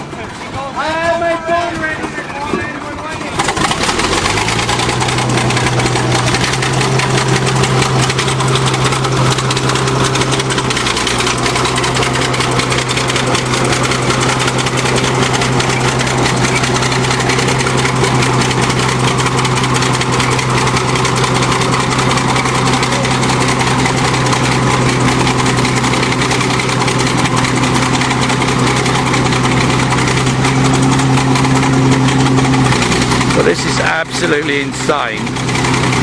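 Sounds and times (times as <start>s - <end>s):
bulldozer diesel engine clattering: 0.0s - 36.0s.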